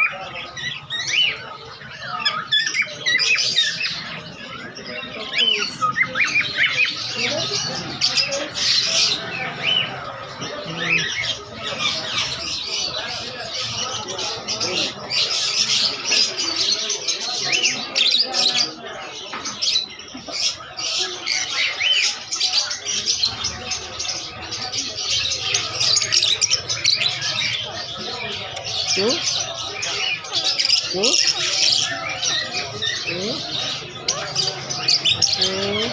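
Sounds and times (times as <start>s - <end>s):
birds chirping and squawking: 0.0s - 35.9s.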